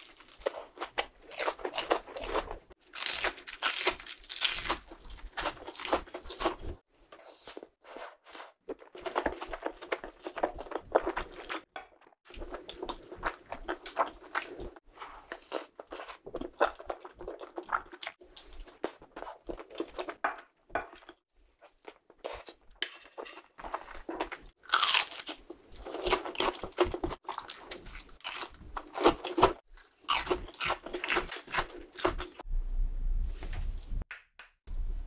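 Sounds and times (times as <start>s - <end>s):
chewing with crunches: 0.0s - 7.6s, 8.4s - 22.6s, 23.6s - 32.4s.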